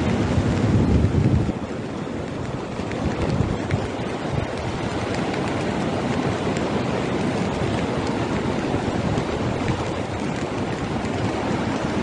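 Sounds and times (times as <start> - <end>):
floodwater roaring down river: 0.0 - 12.0.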